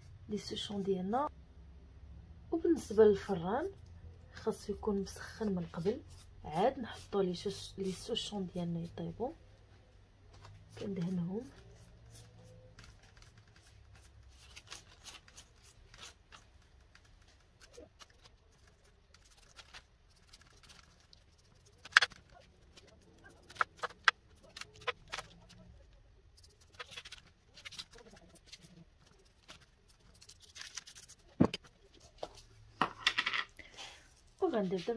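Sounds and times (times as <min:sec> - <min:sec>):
pastry brush strokes: 0:04.5 - 0:32.5.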